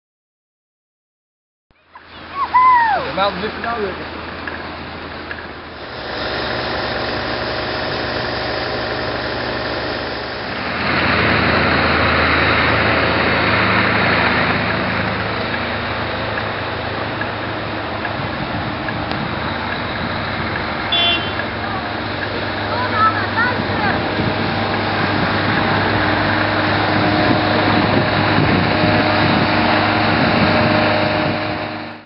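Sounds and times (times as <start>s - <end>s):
vehicle engine running: 1.7s - 32.0s
loud rushing noise: 2.3s - 32.0s.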